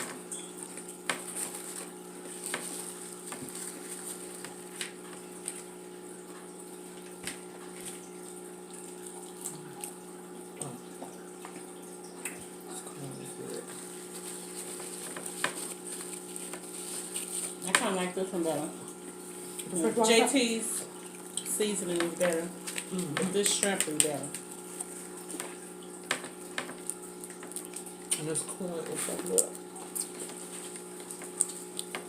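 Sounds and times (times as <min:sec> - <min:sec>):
clicks and crackles of eating: 0:00.0 - 0:18.0, 0:20.8 - 0:32.0
steady background hum: 0:00.0 - 0:32.0.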